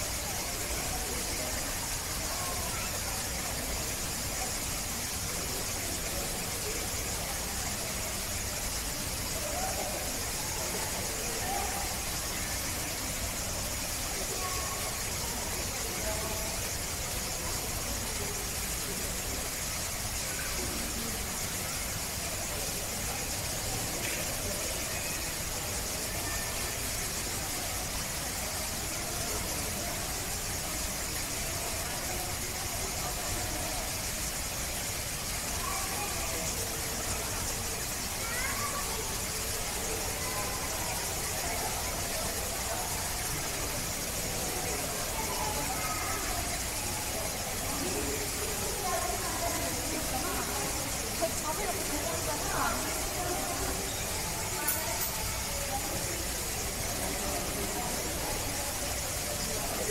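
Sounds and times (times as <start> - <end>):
faint voices: 0.0 - 59.9
waterfall rushing over rocks: 0.0 - 59.9.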